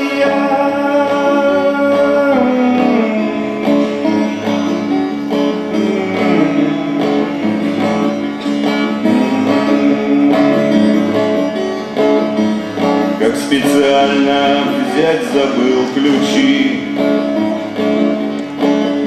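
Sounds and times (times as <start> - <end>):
live band playing: 0.0 - 19.0
plucked guitar melody: 0.0 - 19.0.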